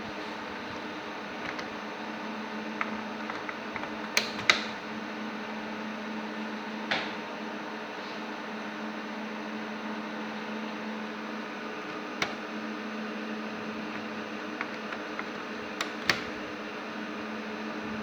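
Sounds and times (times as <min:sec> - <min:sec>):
machine hum: 0:00.0 - 0:06.9, 0:09.1 - 0:18.0.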